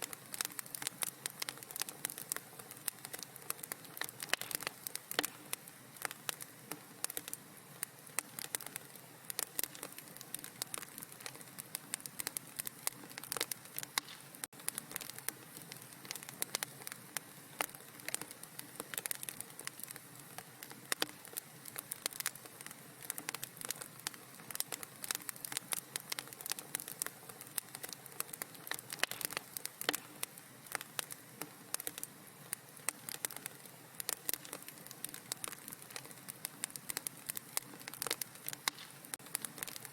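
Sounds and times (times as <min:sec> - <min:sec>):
low hiss: 0:00.0 - 0:39.9
wood fire crackling and popping: 0:00.0 - 0:39.9.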